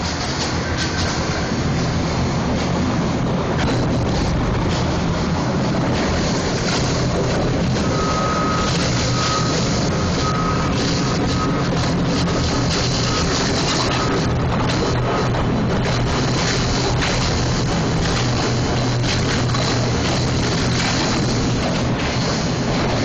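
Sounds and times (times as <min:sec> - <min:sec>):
paper shredder rumbling: 0:03.6 - 0:23.0.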